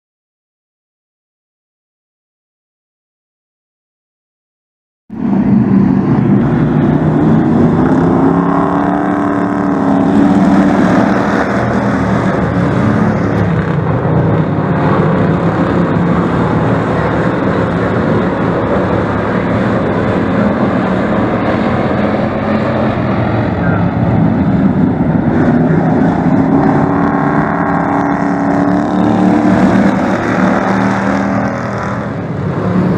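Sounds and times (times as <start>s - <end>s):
race truck engines passing: 5.1s - 32.9s.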